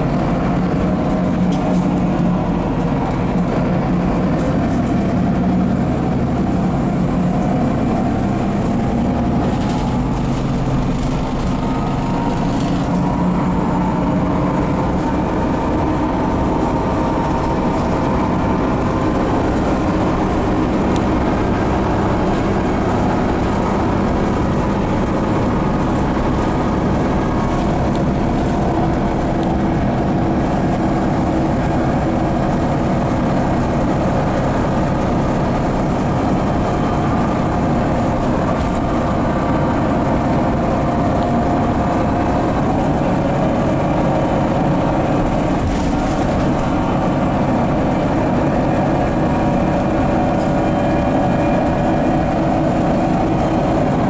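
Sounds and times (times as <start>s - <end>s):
bus engine humming: 0.0s - 54.0s.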